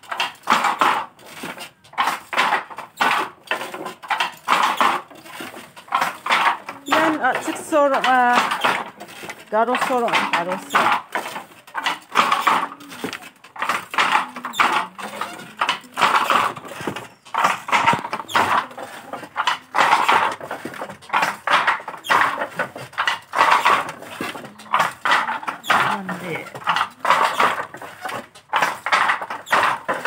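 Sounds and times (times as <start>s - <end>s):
wooden loom knocking and rustling: 0.0s - 30.0s.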